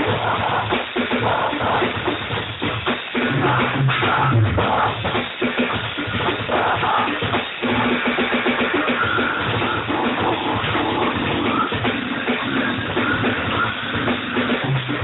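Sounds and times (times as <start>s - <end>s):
music with drums: 0.0s - 15.0s.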